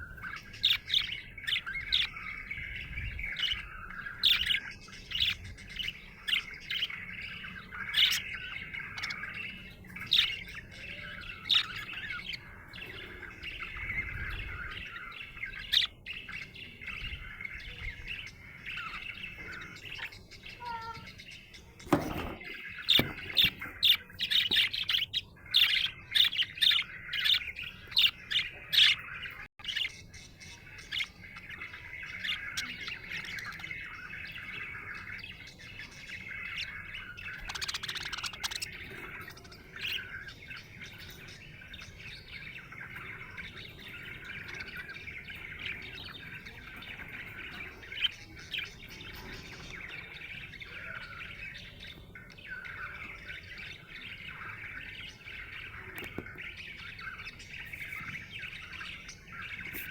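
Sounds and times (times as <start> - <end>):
budgerigar chirping and warbling: 0.0 - 59.9.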